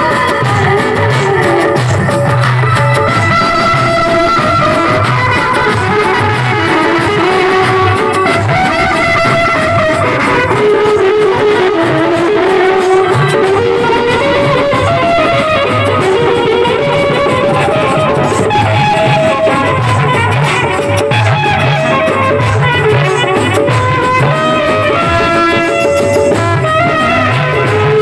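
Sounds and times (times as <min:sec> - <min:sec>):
steady drum beat: 0:00.0 - 0:28.0
wedding band melody: 0:00.0 - 0:28.0.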